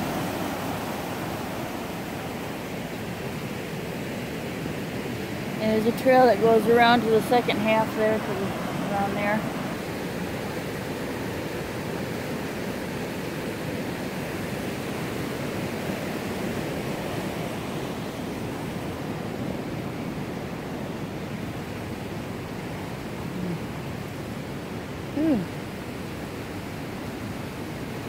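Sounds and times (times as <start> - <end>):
river rapids rushing: 0.0 - 28.0.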